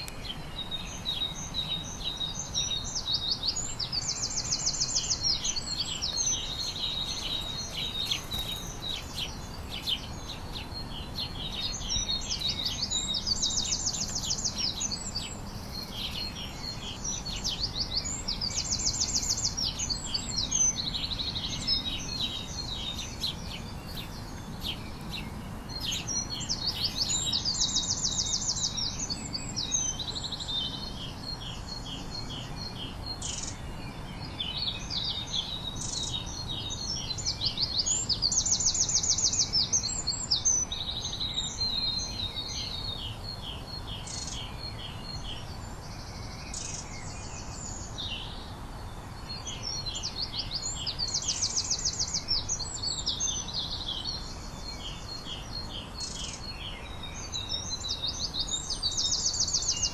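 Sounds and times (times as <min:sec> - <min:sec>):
low background noise: 0:00.0 - 0:59.9
songbirds chorus: 0:00.0 - 0:59.9.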